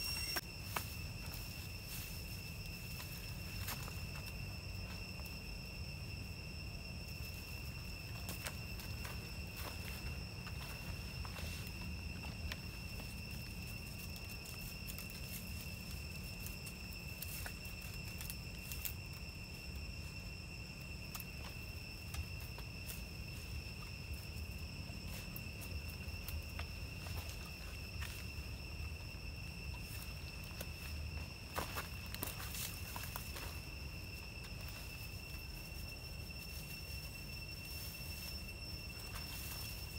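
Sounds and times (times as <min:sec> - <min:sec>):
insect trilling: 0:00.0 - 0:39.9.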